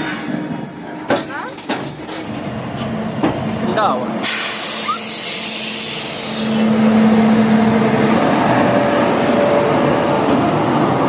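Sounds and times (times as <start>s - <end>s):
freight train rumbling past: 0.0s - 11.0s
wheels whining on rails: 0.0s - 11.0s.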